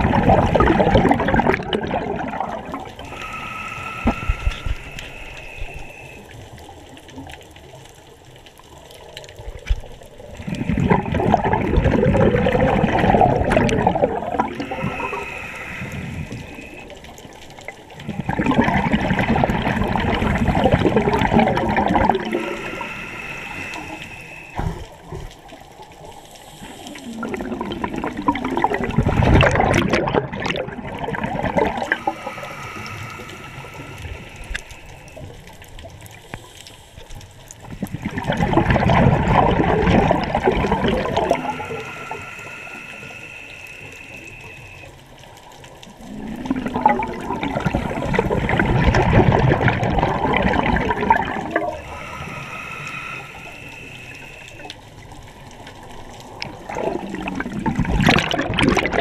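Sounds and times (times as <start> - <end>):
exhaled bubbles underwater: 0.0 - 59.0
hissing inhale through regulator: 1.8 - 6.8, 10.2 - 45.2, 45.9 - 57.9.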